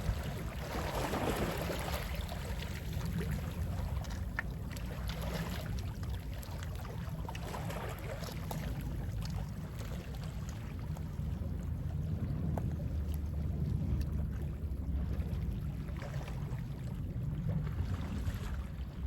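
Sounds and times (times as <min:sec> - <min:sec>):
sea waves lapping: 0:00.0 - 0:19.0
wind rumble on microphone: 0:00.0 - 0:19.0.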